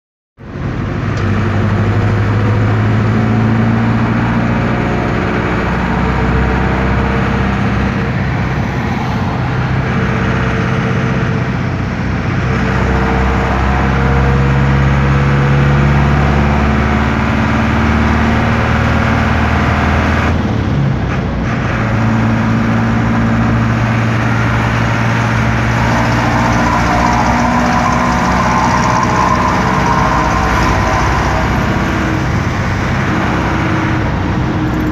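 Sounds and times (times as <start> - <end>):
diesel bus engine running: 0.4 - 34.9.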